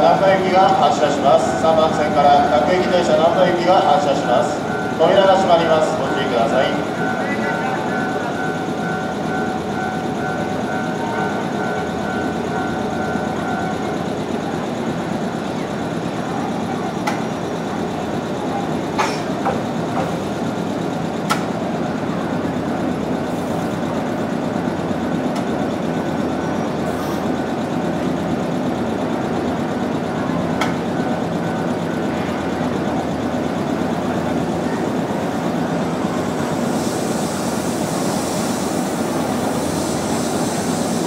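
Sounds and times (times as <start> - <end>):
train hum at platform: 0.0 - 41.0.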